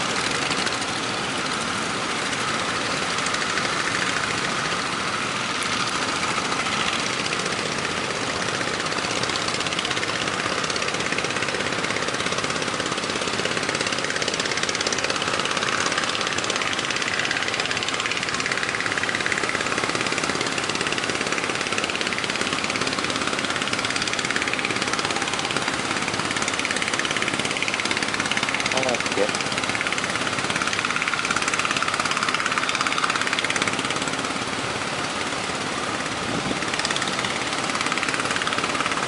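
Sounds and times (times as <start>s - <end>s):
motor engine running steadily: 0.0s - 39.0s.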